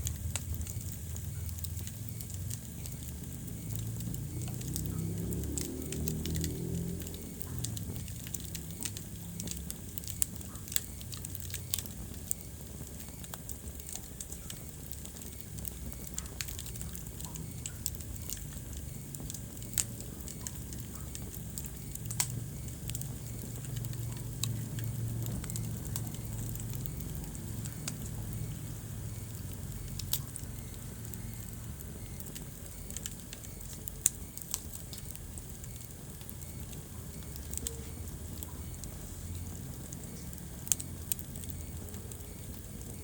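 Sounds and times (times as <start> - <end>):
low rumble of flames: 0.0 - 43.0
wood fire pops and snaps: 0.0 - 43.0.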